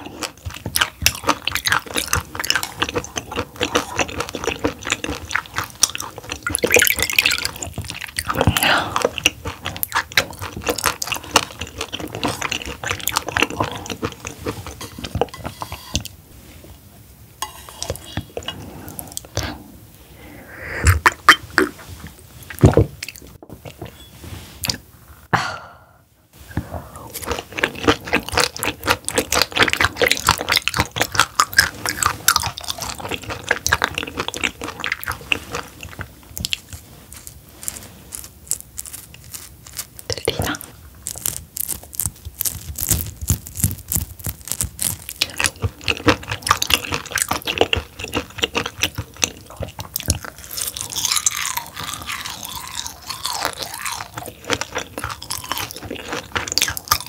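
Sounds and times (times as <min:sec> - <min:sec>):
wet crisp chewing: 0:00.0 - 0:16.2, 0:27.1 - 0:57.0.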